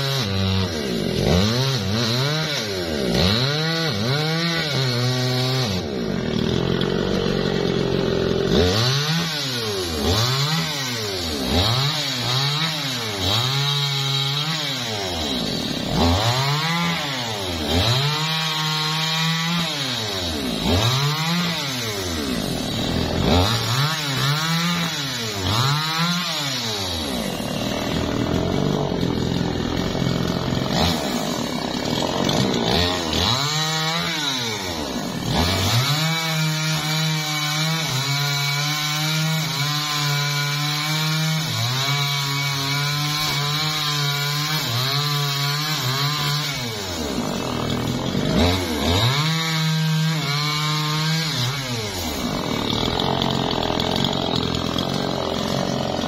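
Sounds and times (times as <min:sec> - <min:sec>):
chainsaw cutting through log: 0:00.0 - 0:56.0
chainsaw revving: 0:00.0 - 0:56.0.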